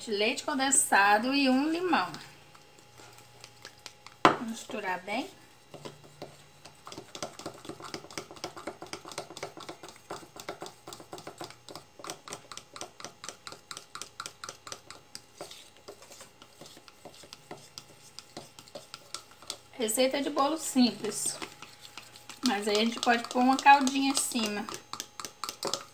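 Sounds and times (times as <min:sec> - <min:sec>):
spoon stirring in a bowl: 0:00.6 - 0:25.9.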